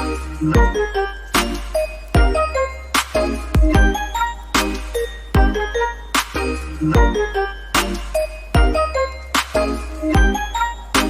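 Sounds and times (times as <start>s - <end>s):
bell-like melody: 0.0s - 11.0s.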